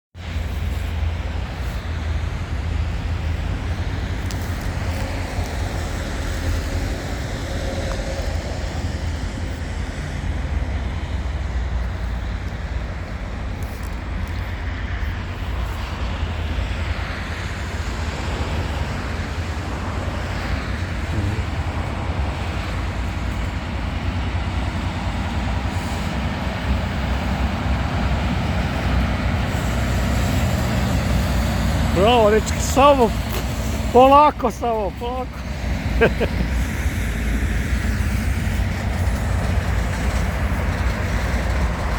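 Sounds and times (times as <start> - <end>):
locomotive diesel engine rumbling: 0.2 - 41.9.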